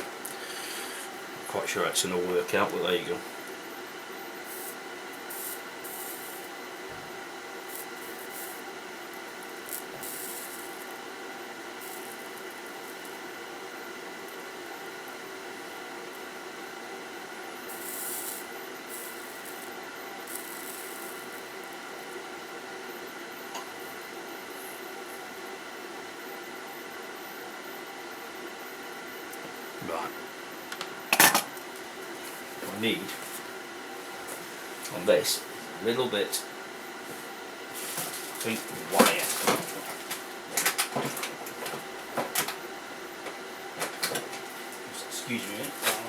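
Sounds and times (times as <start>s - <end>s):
electrical hum and hiss: 0.0s - 46.0s.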